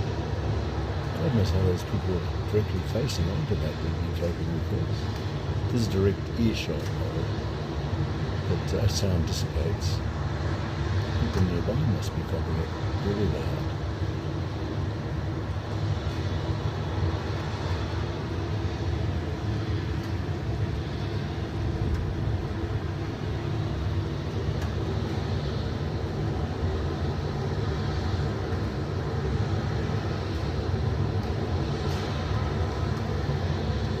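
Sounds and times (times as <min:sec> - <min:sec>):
air conditioning units droning: 0:00.0 - 0:34.0.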